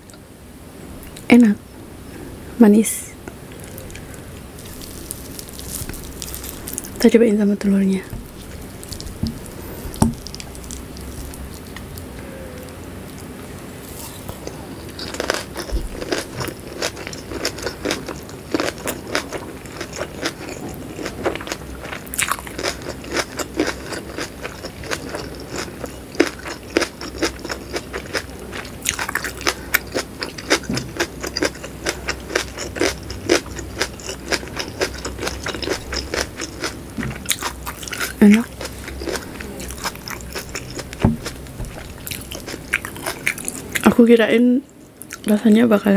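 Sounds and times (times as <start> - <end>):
chewing with small crunches: 3.3 - 7.2, 8.0 - 45.6.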